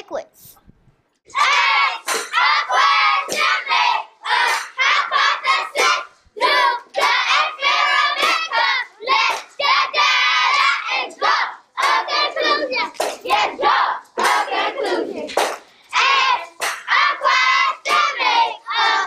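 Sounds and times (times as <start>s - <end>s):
children singing: 1.3s - 19.0s.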